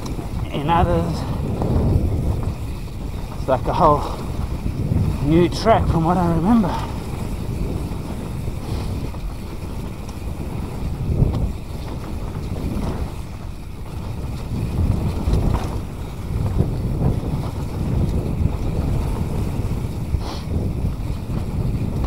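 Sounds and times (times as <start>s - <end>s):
bike knocks and rattles: 0.0s - 22.0s
low rumble of bike tyres: 0.0s - 22.0s
wind buffeting microphone: 0.0s - 22.0s.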